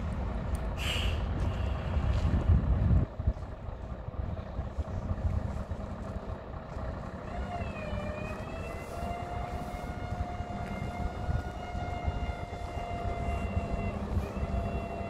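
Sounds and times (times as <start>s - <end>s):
heavy truck engine running: 0.0s - 15.0s
wind rumble on microphone: 0.0s - 15.0s.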